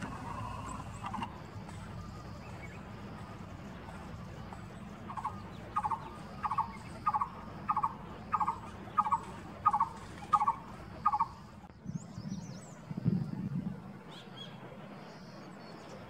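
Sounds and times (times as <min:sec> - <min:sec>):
bird calling tuk notes: 0:00.0 - 0:12.8, 0:14.0 - 0:16.0.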